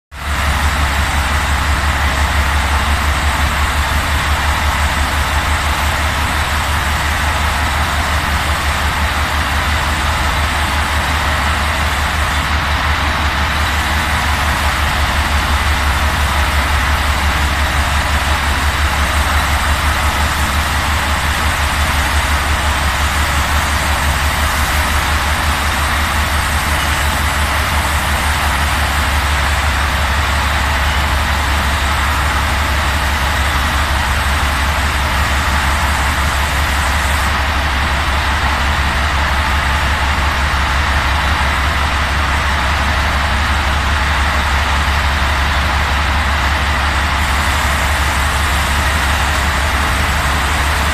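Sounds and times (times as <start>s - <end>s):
machinery humming with fast pulse: 0.2s - 50.9s.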